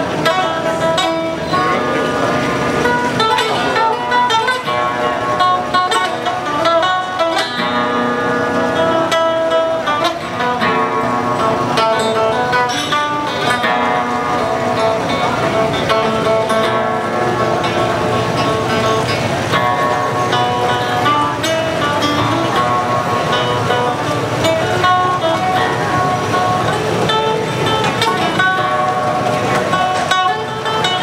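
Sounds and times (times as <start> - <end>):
held melody notes: 0.0 - 31.0
plucked acoustic guitar: 0.0 - 31.0.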